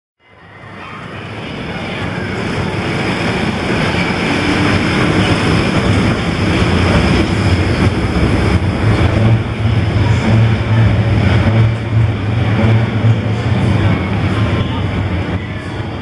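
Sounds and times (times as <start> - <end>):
tram wheels rumbling on rails: 0.2 - 16.0.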